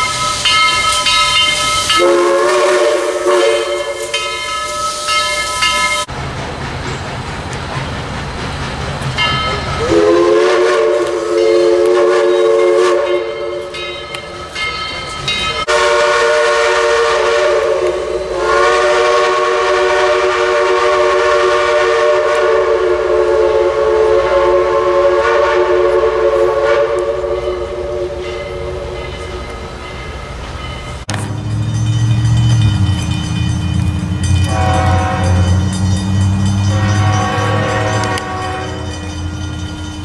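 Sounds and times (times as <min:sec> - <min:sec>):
steam locomotive chime whistle: 0:00.0 - 0:06.1, 0:09.1 - 0:40.0.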